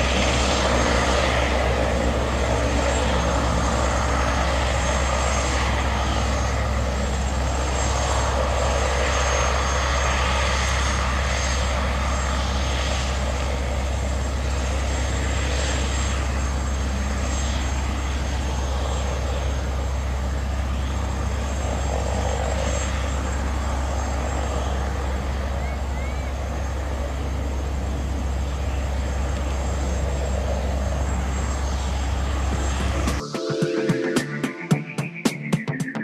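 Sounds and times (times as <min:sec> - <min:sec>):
helicopter turbine whine: 0:00.0 - 0:36.0
low rotor hum: 0:00.0 - 0:36.0.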